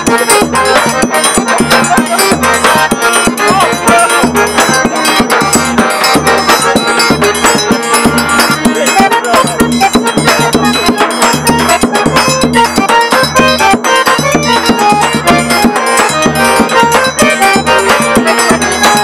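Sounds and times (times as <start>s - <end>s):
bass drum beat: 0.0s - 19.0s
piano accordion melody: 0.0s - 19.0s.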